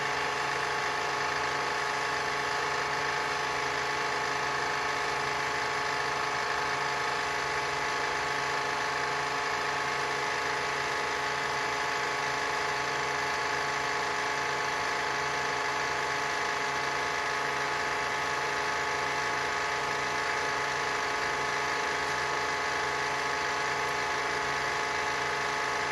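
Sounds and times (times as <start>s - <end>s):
metal lathe running: 0.0s - 25.9s.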